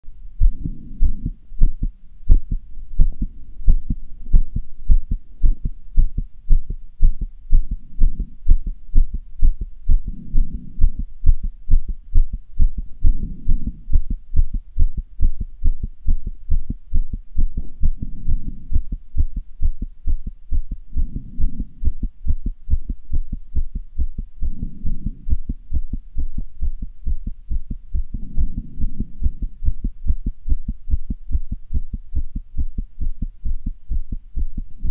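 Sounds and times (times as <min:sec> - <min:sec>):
fast heartbeat thumps: 0:00.4 - 0:34.9.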